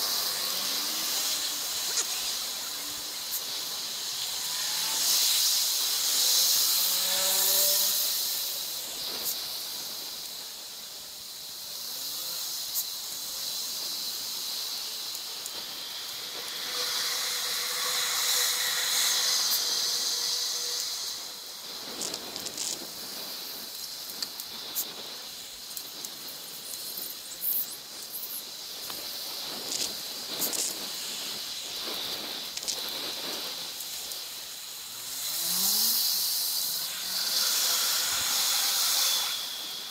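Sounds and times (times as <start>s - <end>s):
wind and tyre hiss: 0.0s - 39.9s.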